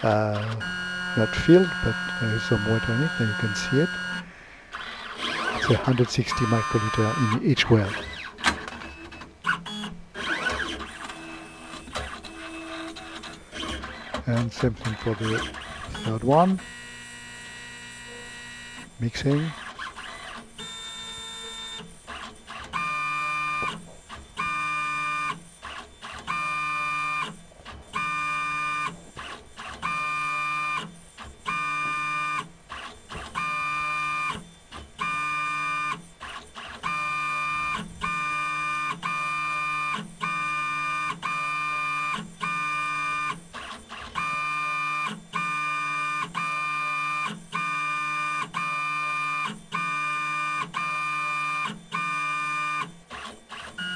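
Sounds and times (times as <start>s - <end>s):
pipetting robot motor whining: 0.0s - 8.5s, 9.4s - 53.9s.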